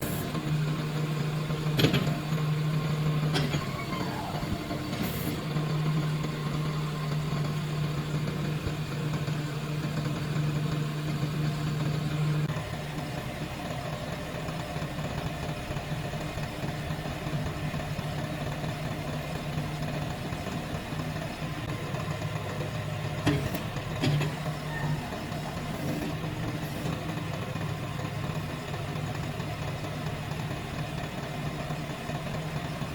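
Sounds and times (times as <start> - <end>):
diesel tractor engine running: 0.0 - 32.9.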